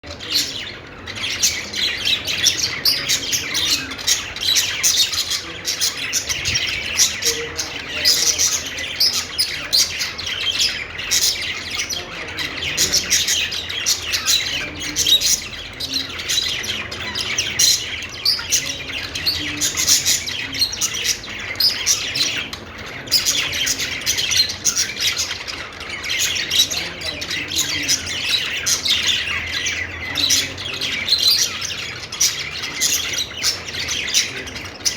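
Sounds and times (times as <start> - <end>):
budgies chirping: 0.0 - 34.9.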